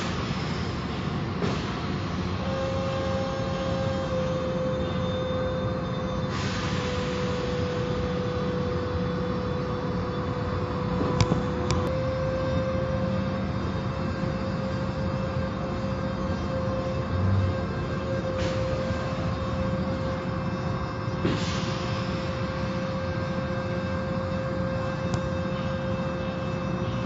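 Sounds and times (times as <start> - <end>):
car wash machinery humming: 0.0 - 27.0
mechanical whine: 0.0 - 27.0.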